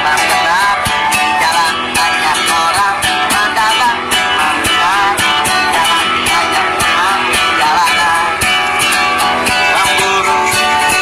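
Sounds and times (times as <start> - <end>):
acoustic guitar strumming: 0.0 - 11.0
man singing: 0.0 - 11.0.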